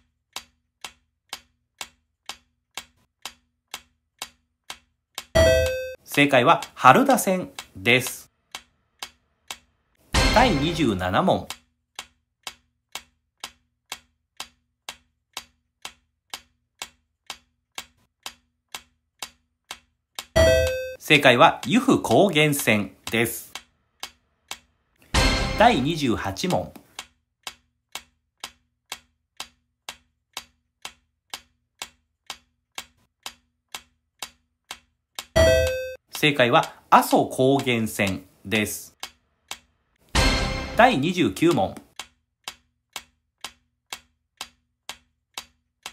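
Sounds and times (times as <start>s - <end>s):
clock ticking: 0.0s - 45.9s.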